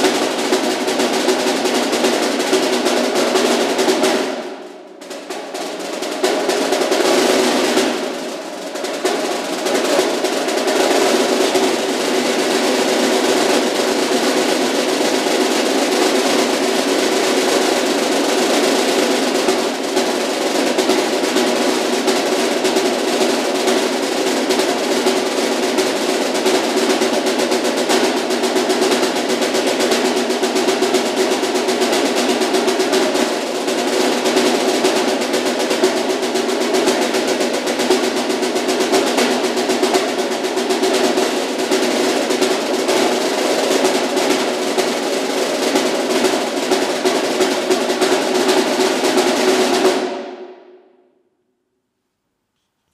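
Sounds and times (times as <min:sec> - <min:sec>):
snare drum rolls: 0:00.0 - 0:50.8.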